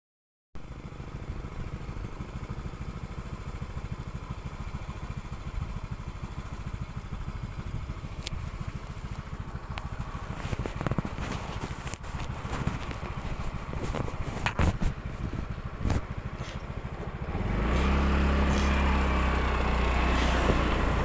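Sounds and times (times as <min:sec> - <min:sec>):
motorcycle engine idling: 0:00.6 - 0:21.0.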